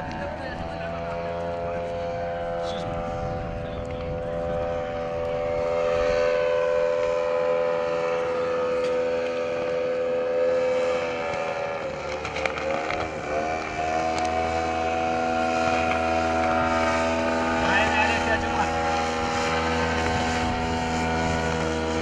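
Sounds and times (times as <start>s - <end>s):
model airplane engine droning: 0.0s - 22.0s.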